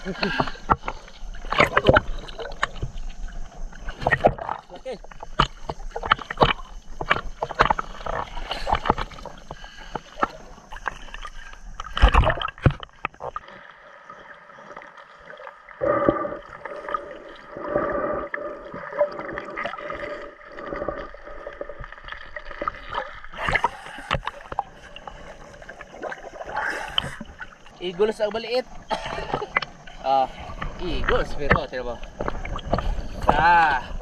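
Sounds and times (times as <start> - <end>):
sea water splashing: 0.0 - 34.0
steady underwater hum: 0.0 - 34.0
underwater gurgling: 0.0 - 34.0.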